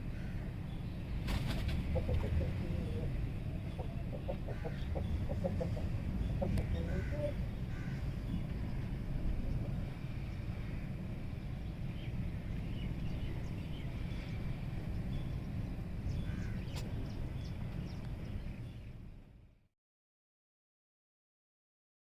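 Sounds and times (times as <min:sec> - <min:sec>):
bird calls: 0:00.0 - 0:19.0
low rumble: 0:00.0 - 0:19.6.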